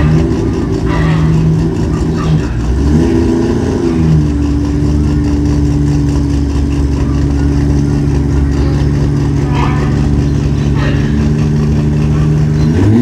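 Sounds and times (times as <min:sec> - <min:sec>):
car engine idling: 0:00.0 - 0:13.0
engine rev falling: 0:00.0 - 0:13.0.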